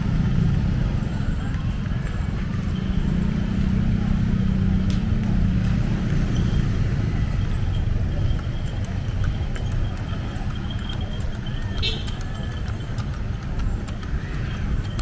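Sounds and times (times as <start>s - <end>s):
traffic hum: 0.0s - 15.0s
vehicle engine running: 0.0s - 15.0s.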